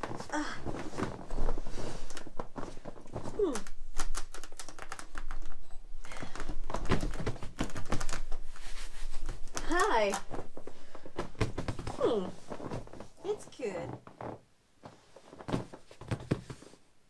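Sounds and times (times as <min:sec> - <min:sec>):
vinyl air bed crackling and creaking: 0:00.0 - 0:16.3.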